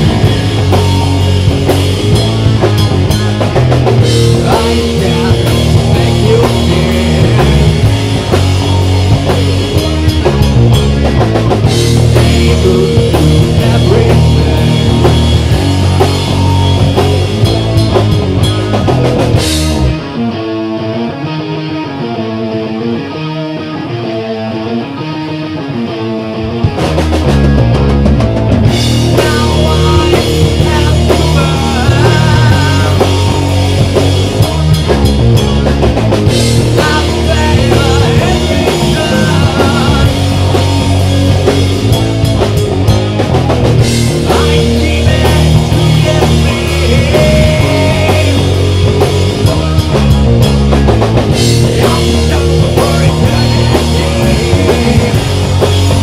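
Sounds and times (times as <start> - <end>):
bass guitar: 0.0 - 56.0
drums: 0.0 - 56.0
electric guitar riff: 0.0 - 56.0.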